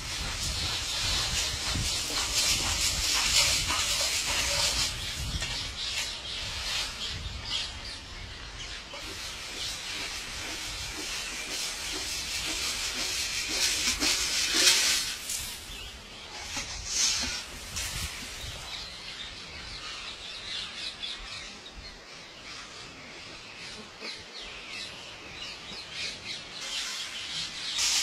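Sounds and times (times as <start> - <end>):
birds chirping: 0.4 - 28.0.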